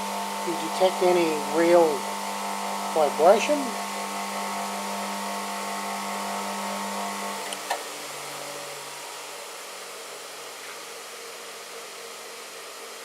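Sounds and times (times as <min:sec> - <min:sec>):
bench grinder motor humming: 0:00.0 - 0:13.0.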